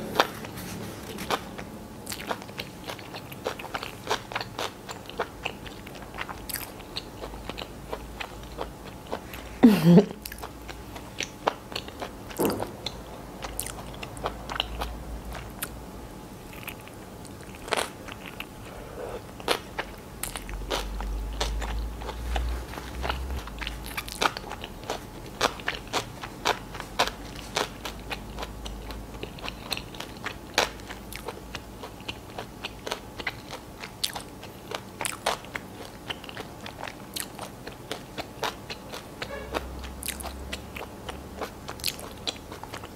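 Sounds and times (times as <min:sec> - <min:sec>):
chewing sandwich: 0:00.0 - 0:09.5, 0:10.2 - 0:15.8, 0:16.4 - 0:42.9.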